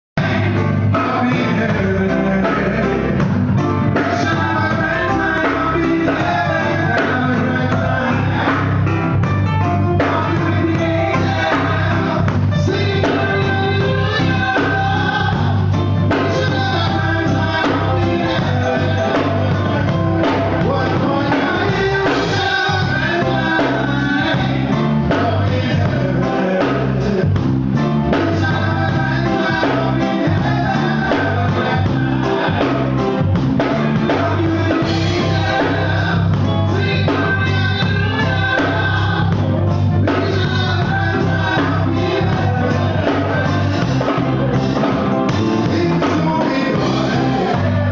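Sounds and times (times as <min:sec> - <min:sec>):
live band playing: 0:00.2 - 0:47.9
man singing: 0:00.2 - 0:47.9.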